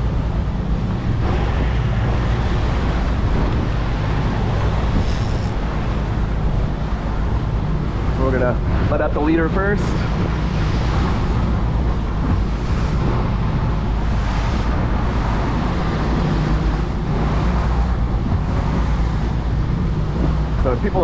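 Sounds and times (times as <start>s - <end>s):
churning wake water: 0.0s - 21.0s
outboard motors humming: 0.0s - 21.0s
wind rushing: 0.0s - 21.0s.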